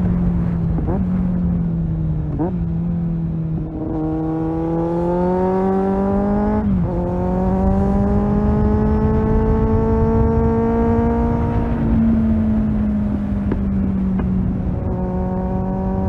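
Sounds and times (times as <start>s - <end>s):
motorcycle engine accelerating: 0.0s - 16.0s
wind rush: 0.0s - 16.0s.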